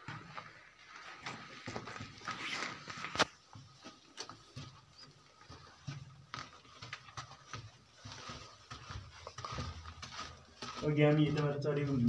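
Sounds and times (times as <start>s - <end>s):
footsteps on dusty floor: 0.0s - 12.0s.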